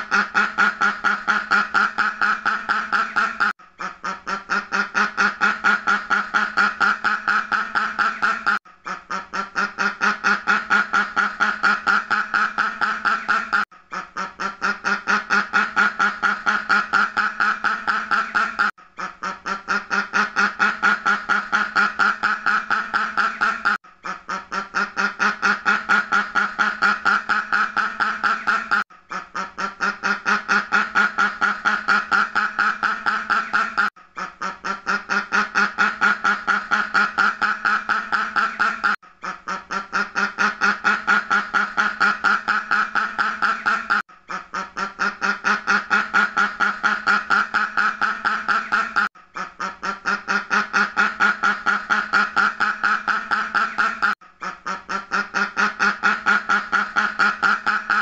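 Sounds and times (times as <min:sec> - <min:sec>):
duck quacking rapidly: 0:00.0 - 0:58.0.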